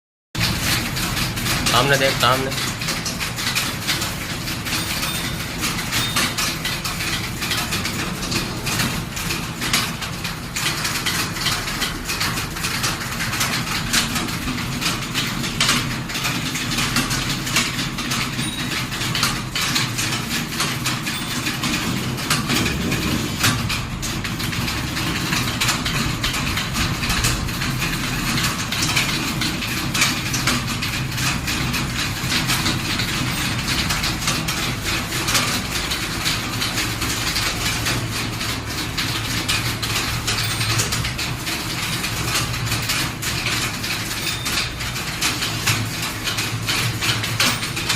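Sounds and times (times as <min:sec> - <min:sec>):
fast keyboard typing: 0:00.4 - 0:47.9.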